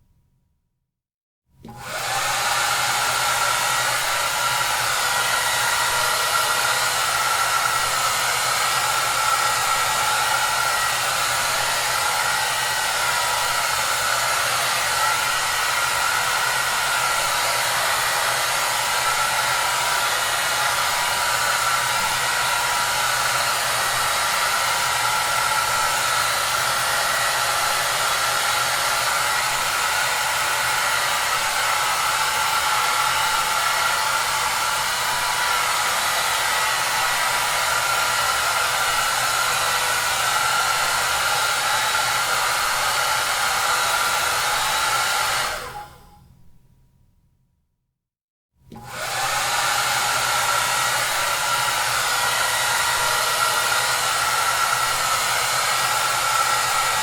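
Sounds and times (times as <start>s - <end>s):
hair dryer running: 1.6s - 46.1s, 48.7s - 57.0s.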